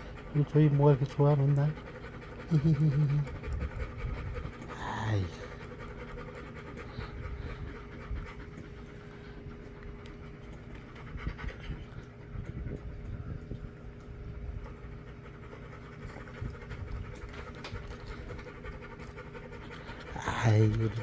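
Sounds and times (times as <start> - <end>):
dog panting: 0.0 - 21.0.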